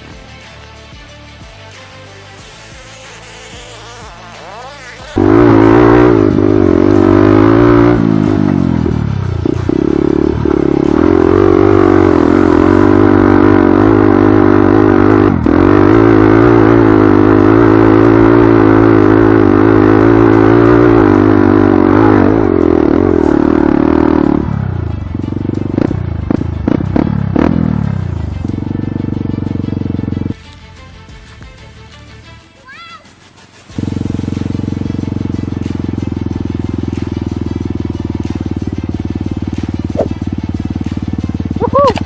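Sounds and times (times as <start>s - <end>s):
motorcycle engine revving high: 2.2s - 30.4s, 33.6s - 42.0s.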